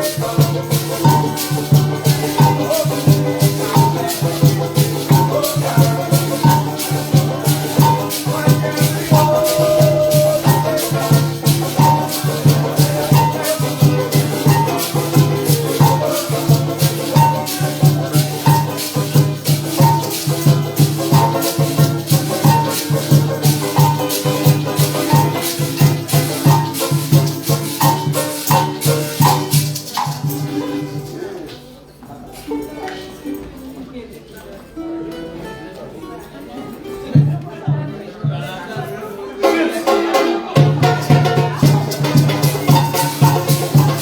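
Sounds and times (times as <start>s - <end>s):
maracas shaken: 0.0s - 34.8s, 38.8s - 44.0s.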